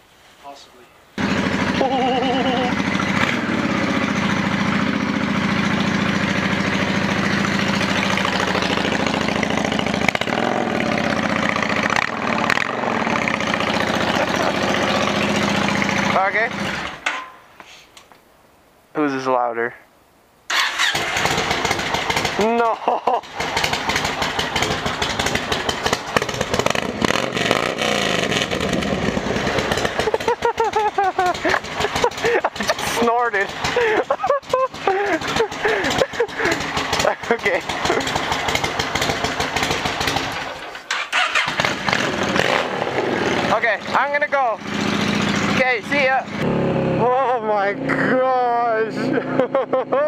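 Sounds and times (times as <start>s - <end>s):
motorcycle engine idling: 1.2s - 17.0s, 20.8s - 48.8s.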